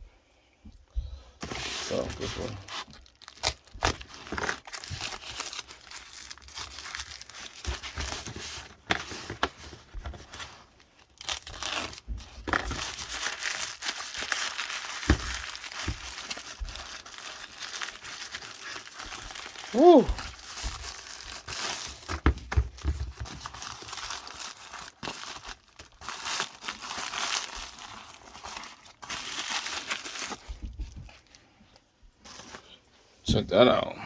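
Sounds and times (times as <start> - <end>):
plastic packaging crinkling and tearing: 1.4 - 31.4.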